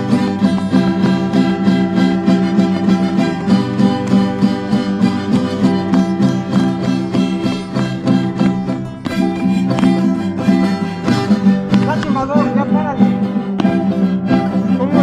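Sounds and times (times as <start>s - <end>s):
guitar: 0.0s - 15.0s
violin: 0.0s - 15.0s.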